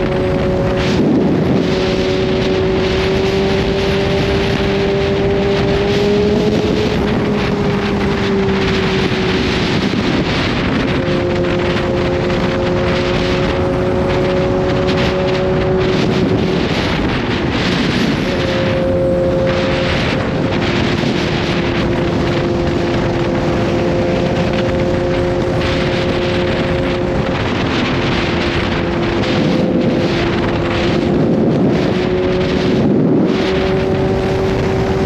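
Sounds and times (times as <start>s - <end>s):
motorcycle engine running: 0.0s - 35.0s
wind rush on microphone: 0.0s - 35.0s.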